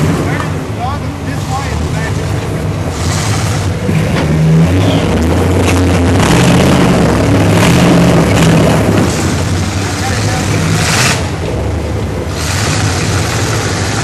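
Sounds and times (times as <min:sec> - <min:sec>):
truck engine at low revs: 0:00.0 - 0:14.0.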